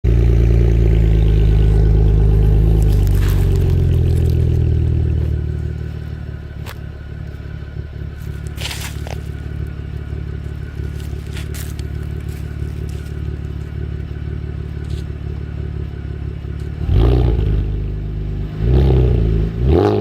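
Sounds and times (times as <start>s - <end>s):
car engine idling: 0.0s - 19.6s.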